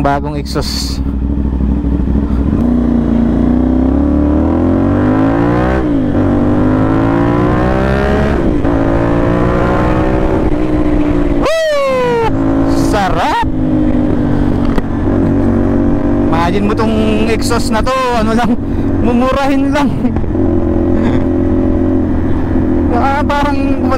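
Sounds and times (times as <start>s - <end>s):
motorcycle engine revving through gears: 1.0s - 23.9s.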